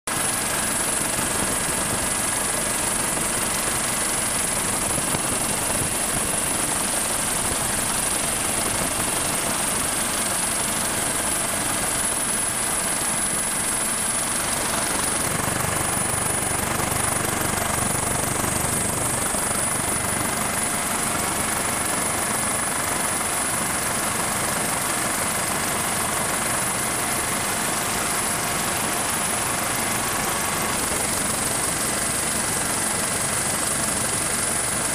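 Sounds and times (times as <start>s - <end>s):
helicopter engines and rotor: 0.1s - 34.9s
high-pitched turbine whine: 0.2s - 34.9s.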